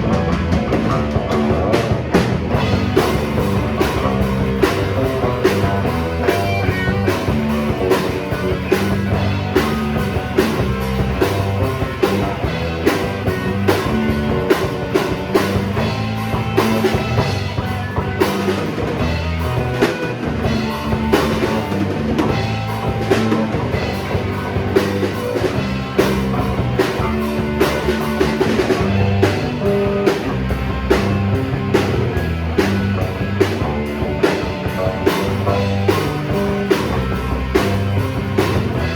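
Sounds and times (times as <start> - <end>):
drum kit beat: 0.0 - 38.9
rock guitar: 0.0 - 38.9.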